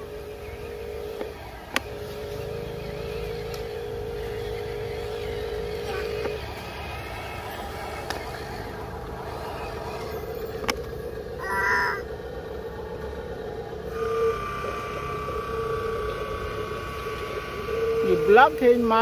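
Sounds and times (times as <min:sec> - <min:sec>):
higher whine: 0:00.0 - 0:19.0
toy truck motor whining: 0:00.0 - 0:19.0.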